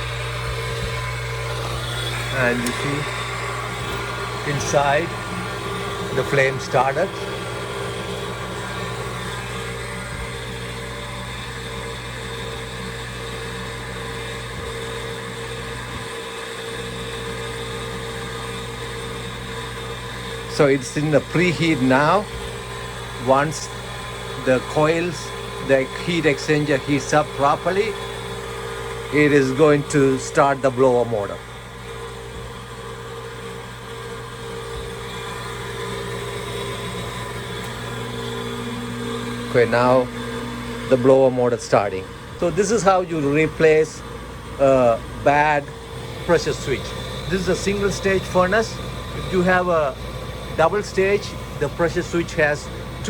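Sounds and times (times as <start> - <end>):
furnace inducer motor humming: 0.0 - 53.0.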